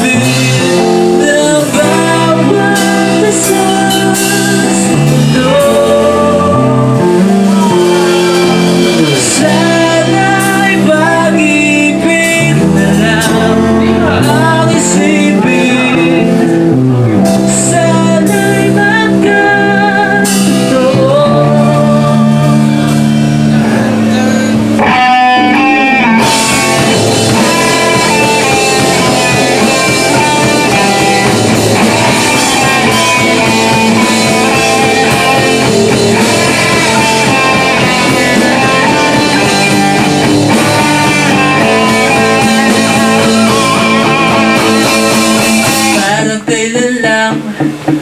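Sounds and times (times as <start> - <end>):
rock band playing live: 0.0 - 48.0.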